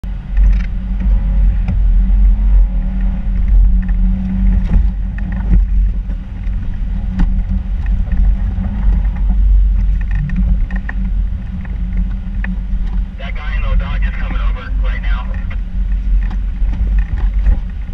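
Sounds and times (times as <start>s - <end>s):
vehicle engine rumble: 0.0s - 17.9s.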